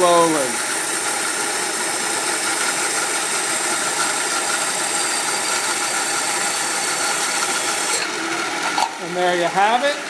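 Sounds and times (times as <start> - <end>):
band saw grinding through glass: 0.0 - 10.0.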